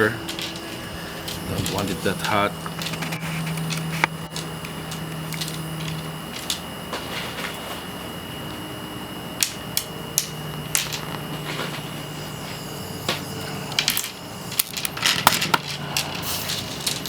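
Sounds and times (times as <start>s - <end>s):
torch hissing: 0.0s - 17.0s.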